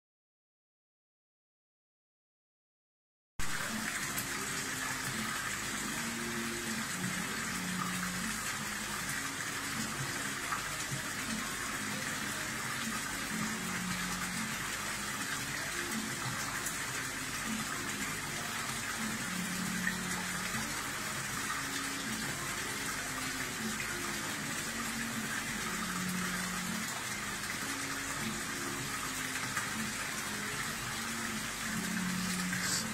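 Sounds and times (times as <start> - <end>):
water gushing into pond: 3.4 - 32.9.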